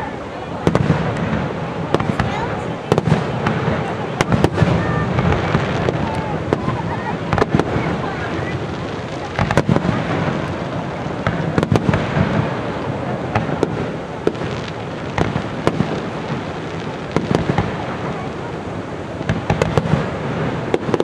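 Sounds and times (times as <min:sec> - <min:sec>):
fireworks bursting with bangs: 0:00.0 - 0:21.0
steady background noise: 0:00.0 - 0:21.0.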